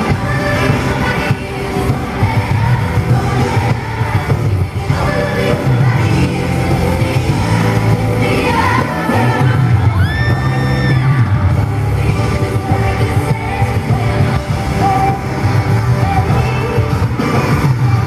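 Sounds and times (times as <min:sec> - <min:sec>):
band with heavy bass: 0:00.0 - 0:18.0
fans yelling and screaming: 0:00.0 - 0:18.0
female vocal group singing: 0:00.0 - 0:18.0.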